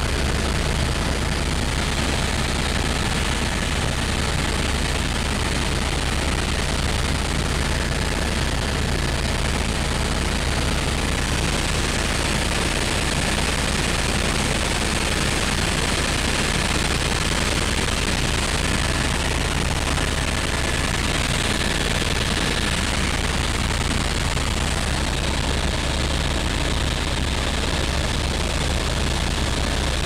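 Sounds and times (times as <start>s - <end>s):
helicopter rotor and engine noise: 0.0s - 30.0s.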